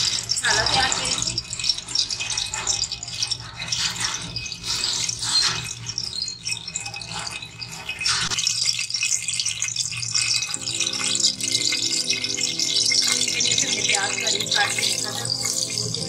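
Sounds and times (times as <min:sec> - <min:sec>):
oil crackling hiss: 0:00.0 - 0:16.0.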